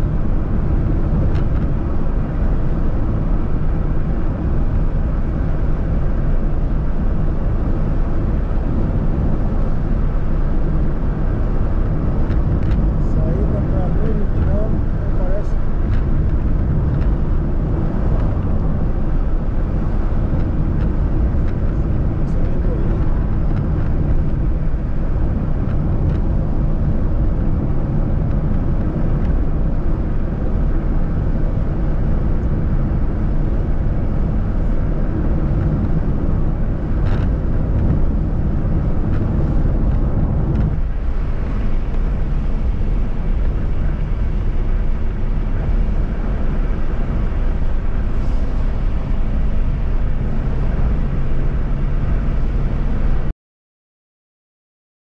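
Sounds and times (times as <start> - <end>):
car engine: 0.0 - 53.3
wind noise: 0.0 - 53.3.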